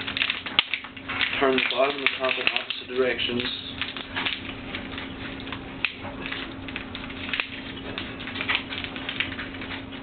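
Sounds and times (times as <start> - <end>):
plastic bottle crackling: 0.0 - 10.0.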